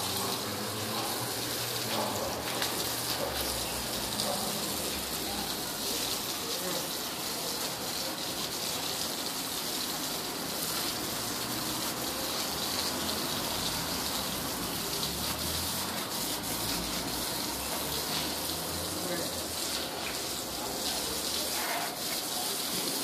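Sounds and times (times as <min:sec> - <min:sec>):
hose water splashing on tiles: 0:00.0 - 0:23.0.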